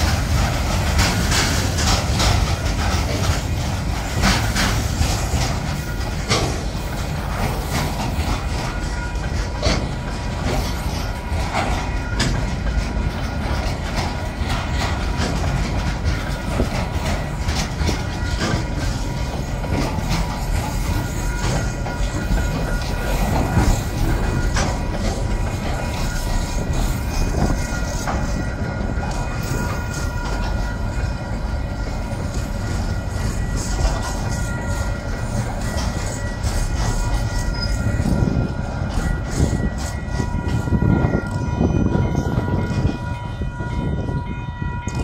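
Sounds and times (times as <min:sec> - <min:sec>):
freight train rumbling past: 0:00.0 - 0:45.0
wheels clattering over rail joints: 0:00.0 - 0:45.0.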